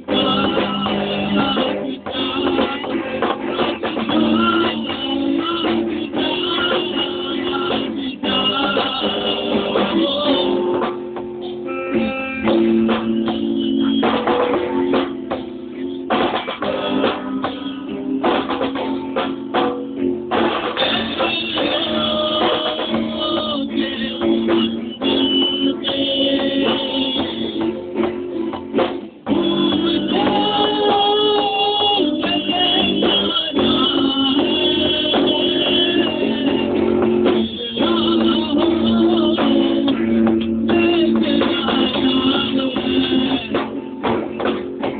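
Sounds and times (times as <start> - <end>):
rock band music: 0.0 - 44.9.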